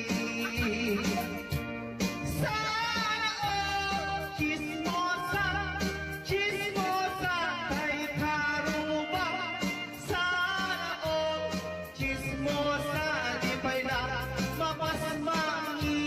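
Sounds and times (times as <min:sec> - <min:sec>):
song with singing and beat: 0:00.0 - 0:16.0.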